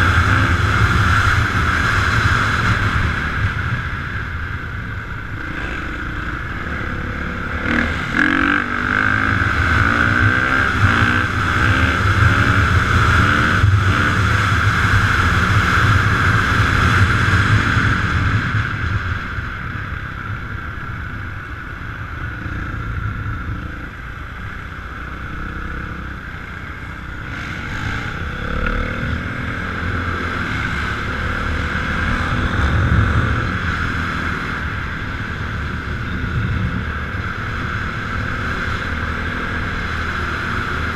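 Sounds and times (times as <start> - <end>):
dirt bike engines revving: 0.0 - 18.6, 22.1 - 40.9.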